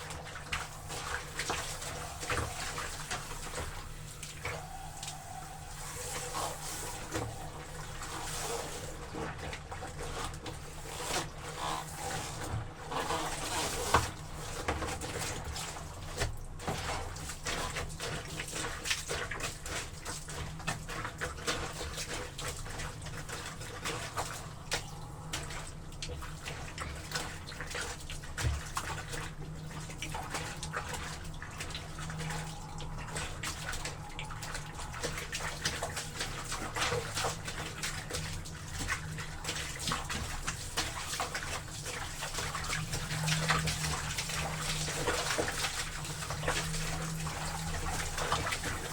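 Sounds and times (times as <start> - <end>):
water splashing and sloshing: 0.0 - 48.9.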